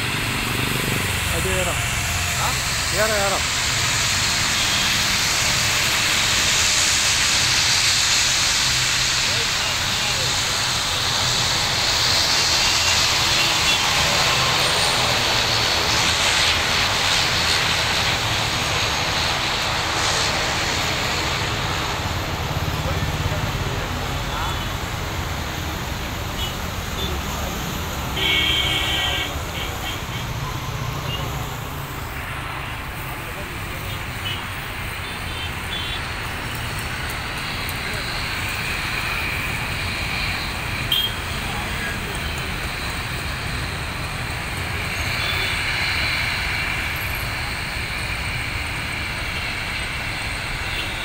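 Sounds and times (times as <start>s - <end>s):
distant turboprop airliner engines: 0.0s - 51.0s
engine whine: 0.0s - 51.0s
propeller drone: 0.0s - 51.0s.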